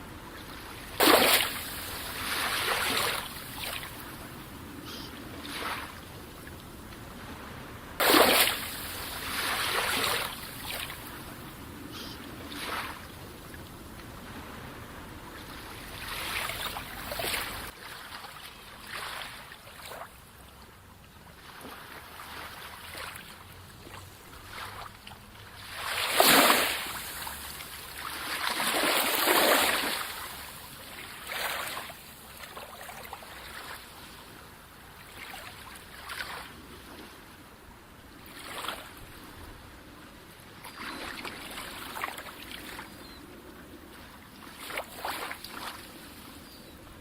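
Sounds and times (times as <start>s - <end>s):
sea waves washing on shore: 0.0s - 20.2s, 21.4s - 47.0s.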